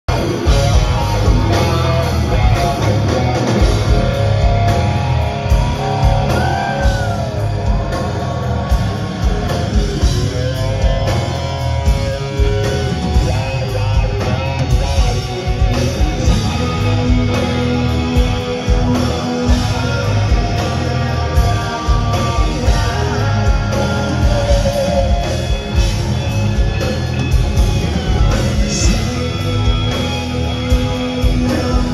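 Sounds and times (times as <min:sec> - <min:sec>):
bass: 0:00.0 - 0:31.9
electric guitars: 0:00.1 - 0:31.9.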